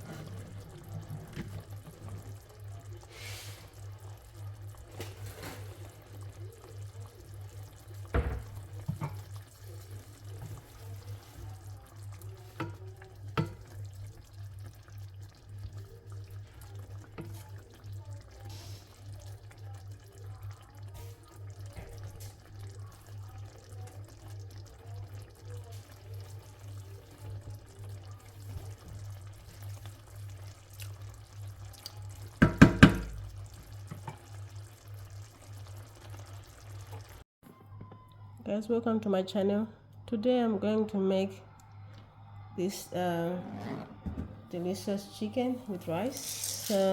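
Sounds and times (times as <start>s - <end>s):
water splashing in a sink: 0.0s - 37.2s, 45.7s - 46.9s.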